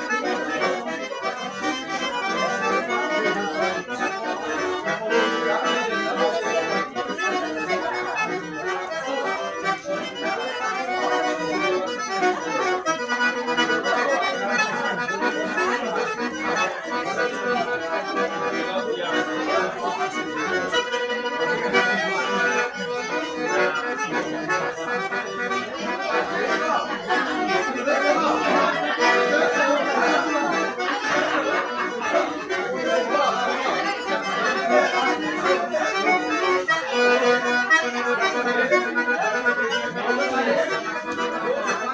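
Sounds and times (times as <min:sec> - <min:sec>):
accordion music: 0:00.0 - 0:41.9.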